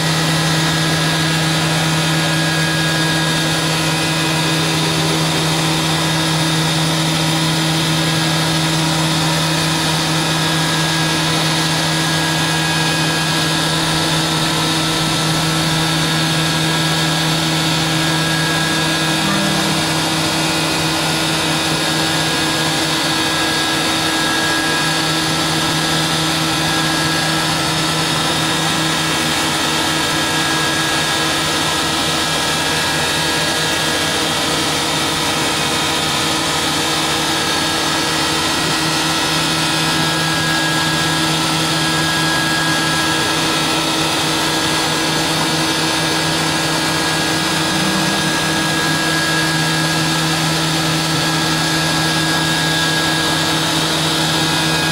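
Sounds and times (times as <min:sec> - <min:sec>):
milling machine spindle hum: 0:00.0 - 0:54.9.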